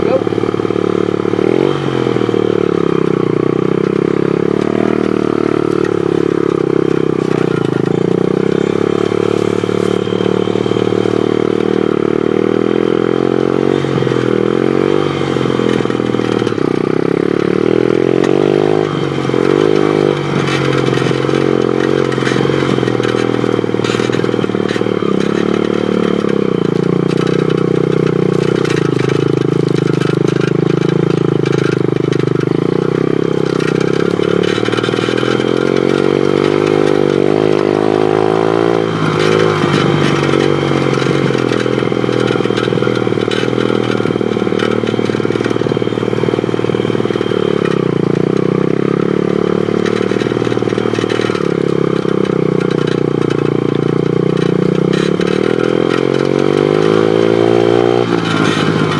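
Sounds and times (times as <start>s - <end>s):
pit bike engine revving: 0.0s - 58.9s
knocks and rattles: 2.4s - 58.9s.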